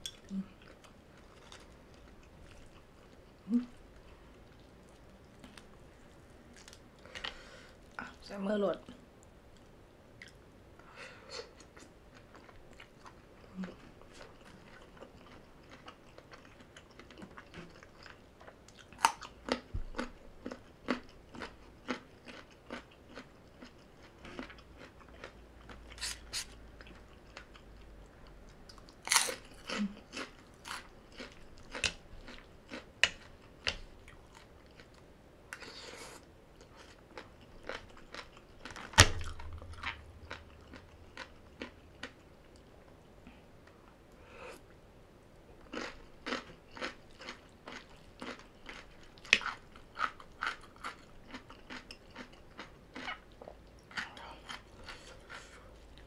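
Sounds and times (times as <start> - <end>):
person chewing crunchy food: 0.0 - 8.0, 11.6 - 42.7, 45.6 - 56.0.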